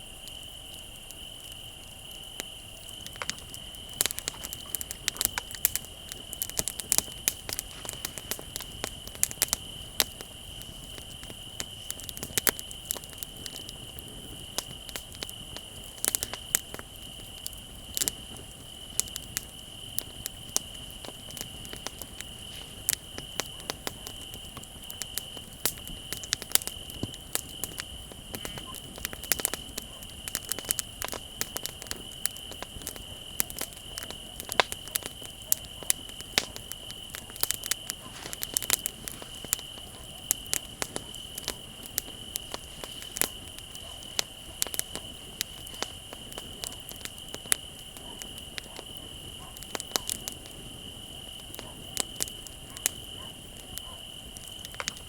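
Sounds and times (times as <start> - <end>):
bonfire crackling and popping: 0.0 - 55.0
crickets trilling: 0.0 - 55.0.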